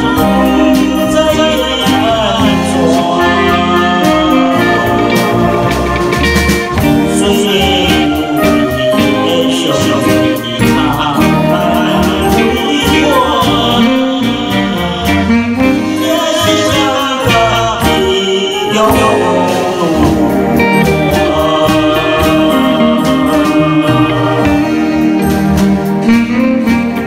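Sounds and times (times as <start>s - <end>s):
man singing a slow ballad: 0.0s - 5.4s, 6.9s - 25.0s
keyboard and guitar accompaniment: 0.0s - 27.0s.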